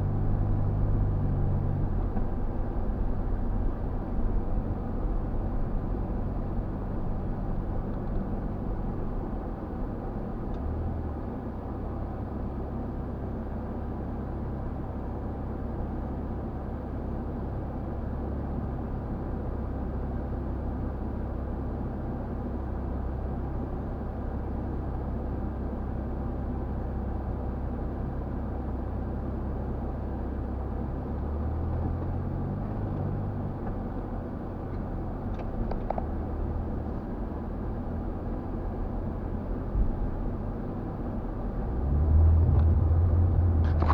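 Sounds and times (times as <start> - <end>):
vehicle engine driving off-road: 0.0 - 43.9.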